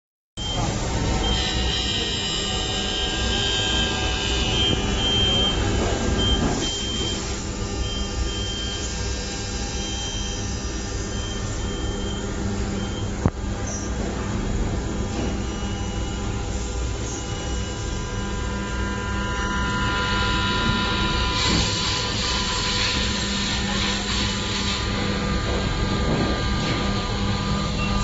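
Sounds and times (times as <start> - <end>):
high machine whine: 0.4 - 28.0
machine motor hum: 0.4 - 28.0.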